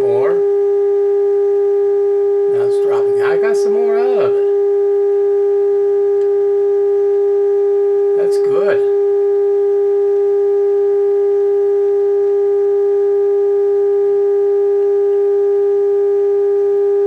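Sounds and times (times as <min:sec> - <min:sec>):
steady test tone from radio: 0:00.0 - 0:17.0.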